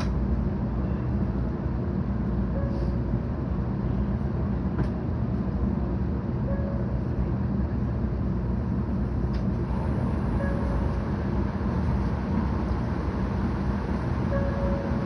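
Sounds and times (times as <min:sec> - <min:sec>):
train rumbling inside cabin: 0:00.0 - 0:15.0.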